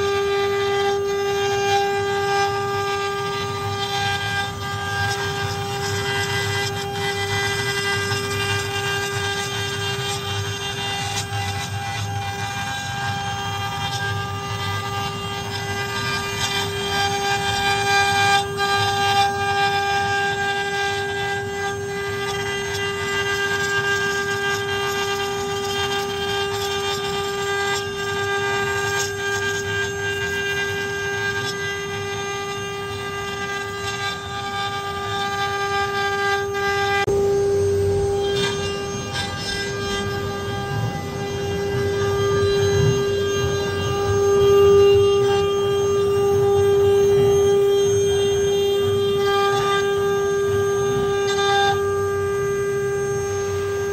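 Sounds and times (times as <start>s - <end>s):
router spindles whining: 0.0s - 53.9s.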